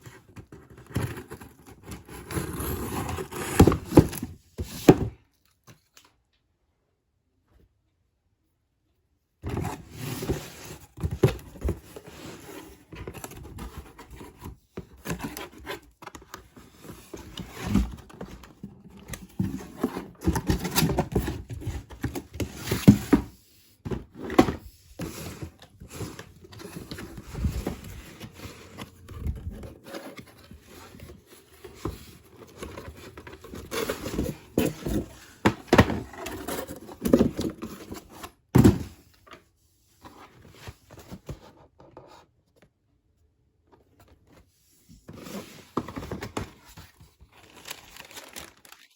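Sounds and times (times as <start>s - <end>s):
shoebox and sneakers handled: 0.0s - 5.2s, 9.4s - 42.2s, 44.0s - 48.9s.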